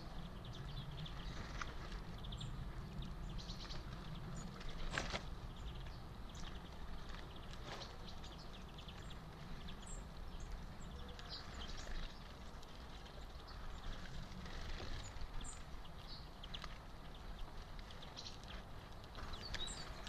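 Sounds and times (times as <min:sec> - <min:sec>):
low wind rumble: 0:00.0 - 0:20.0.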